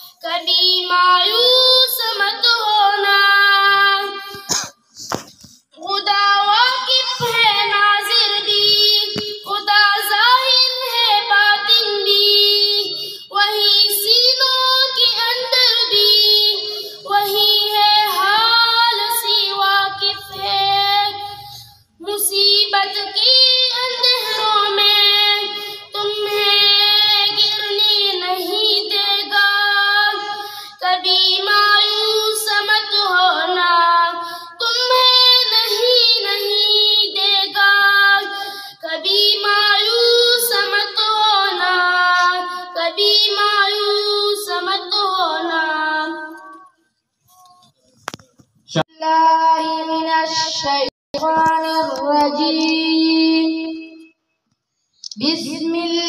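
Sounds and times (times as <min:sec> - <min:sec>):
boy singing into a microphone: 0:00.0 - 0:46.6, 0:48.7 - 0:54.1, 0:55.1 - 0:56.0.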